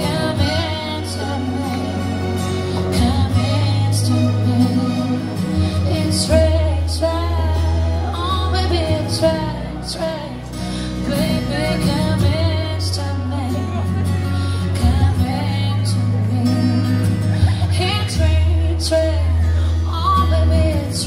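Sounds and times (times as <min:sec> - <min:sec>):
woman singing into a microphone: 0:00.0 - 0:21.0.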